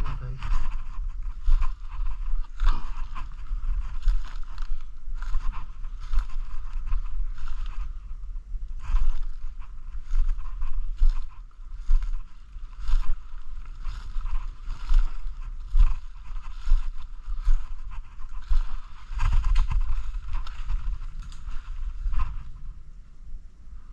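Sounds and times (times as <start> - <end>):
footsteps in dry leaves: 0.0 - 22.7
steady low rumble: 0.0 - 23.9.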